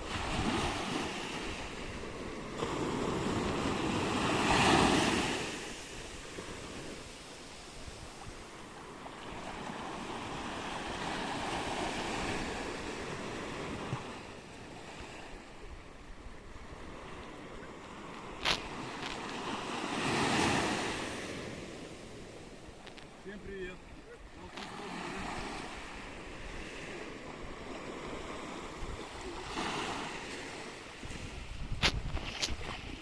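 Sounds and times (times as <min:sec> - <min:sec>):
waves breaking on shore: 0:00.0 - 0:33.0.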